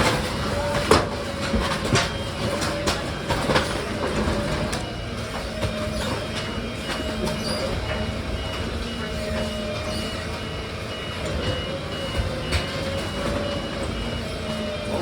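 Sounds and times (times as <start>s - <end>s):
engine running: 0.0s - 15.0s
truck reversing alarm beeping: 0.0s - 15.0s.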